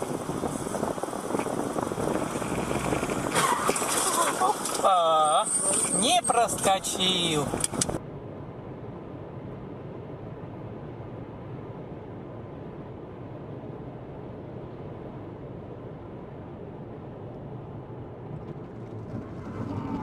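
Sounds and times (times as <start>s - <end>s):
car road noise from cabin: 0.0s - 20.0s.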